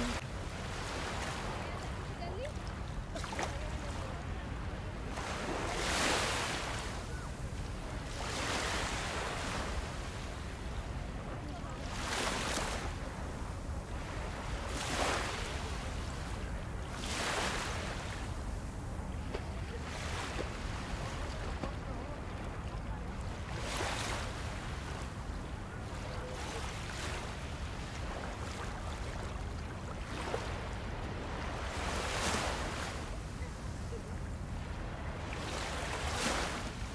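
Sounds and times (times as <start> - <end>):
small waves lapping on shore: 0.0 - 36.9.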